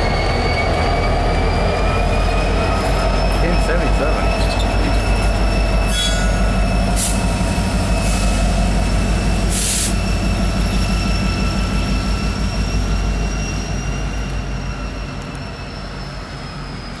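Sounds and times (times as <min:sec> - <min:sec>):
diesel locomotive engine drone: 0:00.0 - 0:17.0
high-pitched wheel squeal: 0:00.0 - 0:17.0.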